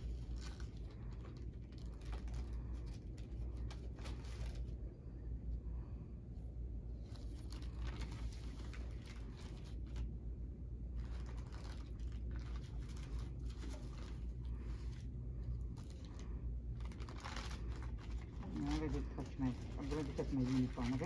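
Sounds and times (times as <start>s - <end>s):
paper wrap crinkling: 0.0s - 4.9s, 7.0s - 21.0s
steady low hum: 0.0s - 21.0s.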